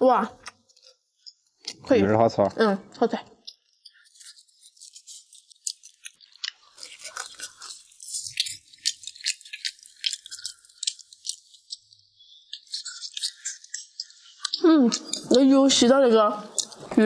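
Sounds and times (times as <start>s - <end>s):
chewing with crackles: 0.4s - 2.0s, 2.8s - 17.0s.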